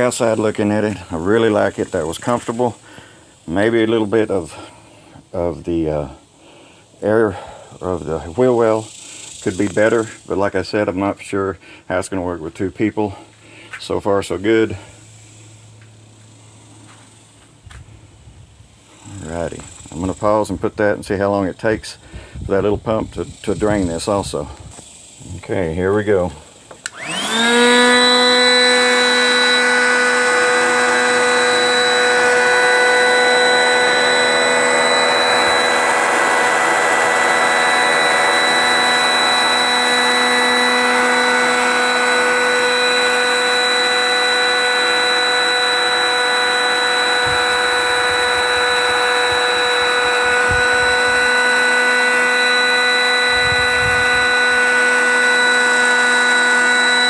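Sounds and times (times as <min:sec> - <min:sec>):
electric air pump whining: 0:00.0 - 0:11.1, 0:18.7 - 0:20.5, 0:22.0 - 0:57.0.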